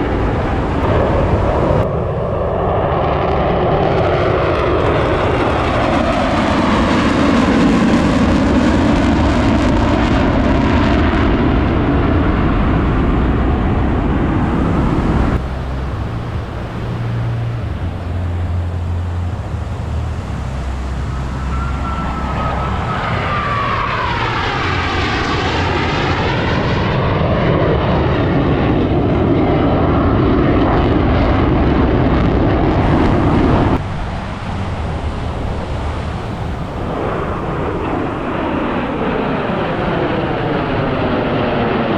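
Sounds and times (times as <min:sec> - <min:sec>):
jets flying past: 0:00.0 - 0:41.9.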